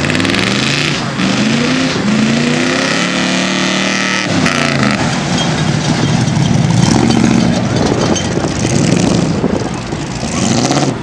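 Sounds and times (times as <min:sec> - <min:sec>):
pickup engine accelerating hard: 0:00.0 - 0:11.0.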